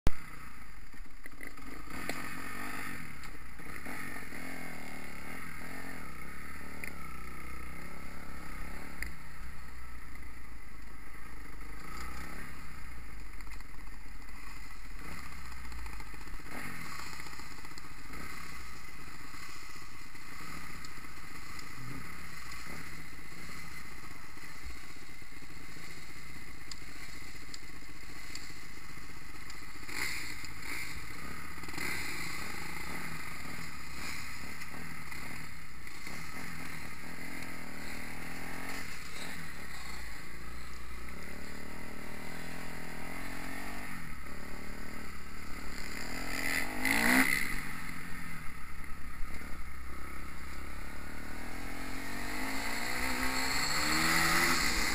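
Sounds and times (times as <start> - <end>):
motorcycle engine running at low revs: 0.1 - 54.9.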